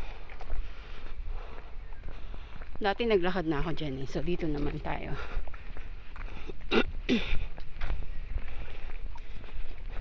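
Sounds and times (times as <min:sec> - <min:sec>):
footsteps on a path: 0:00.0 - 0:10.0
wind buffeting microphone: 0:00.0 - 0:10.0.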